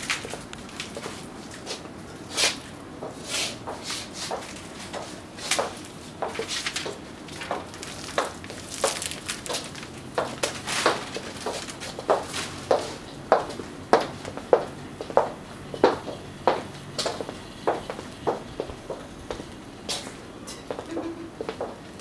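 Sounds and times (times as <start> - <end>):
footsteps on hard floor: 3.0 - 21.8.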